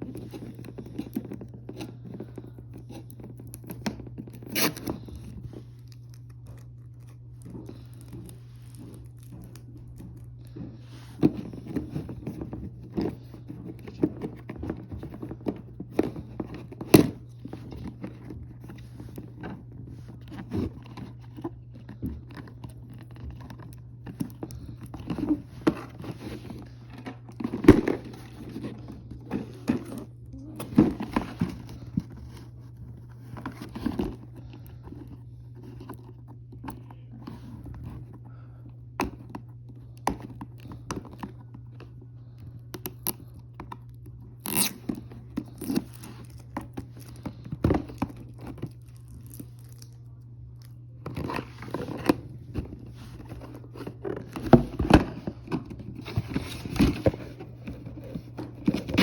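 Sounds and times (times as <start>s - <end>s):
packaging crinkling and scraping: 0.0s - 59.0s
steady low hum: 0.0s - 59.0s.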